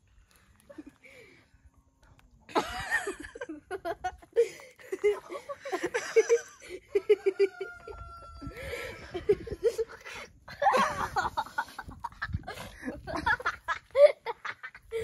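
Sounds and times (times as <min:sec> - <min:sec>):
children laughing: 0:02.5 - 0:15.0.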